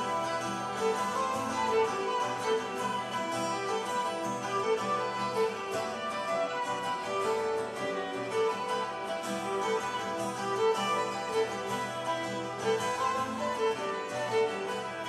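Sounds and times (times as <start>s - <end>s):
bowed fiddle notes: 0.0s - 15.0s
plucked strings: 0.0s - 15.0s.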